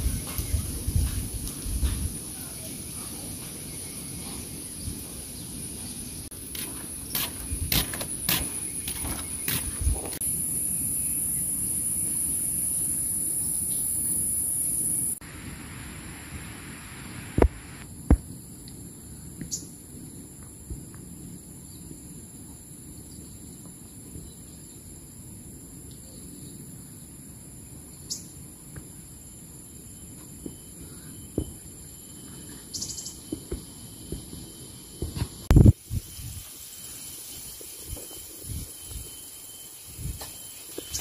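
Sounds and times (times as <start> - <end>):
insects buzzing: 0.0 - 19.8, 24.2 - 41.0.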